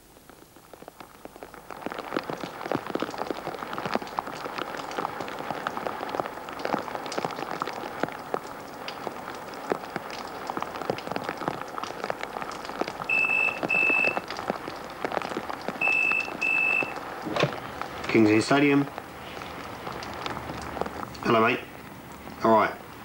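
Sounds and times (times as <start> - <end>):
rain dripping into puddles: 0.0 - 23.0.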